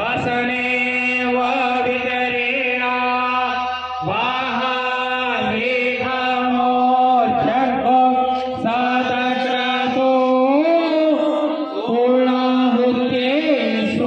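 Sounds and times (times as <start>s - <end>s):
men chanting over a microphone: 0.0s - 14.0s.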